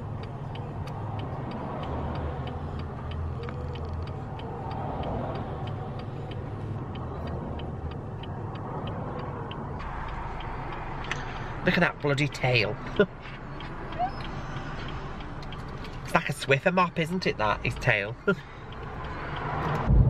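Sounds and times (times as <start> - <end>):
light regular ticking: 0.0 - 20.0
road vehicle rumble: 0.0 - 20.0.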